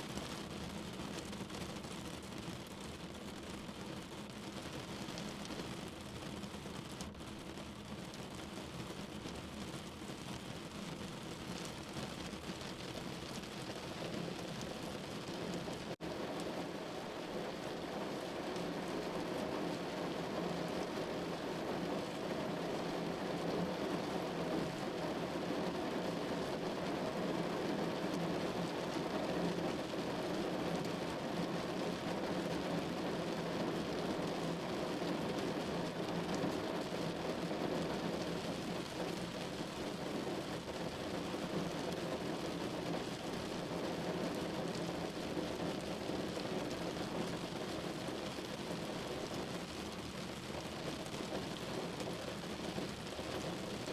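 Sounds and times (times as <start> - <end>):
rain pattering on a window: 0.0 - 53.9.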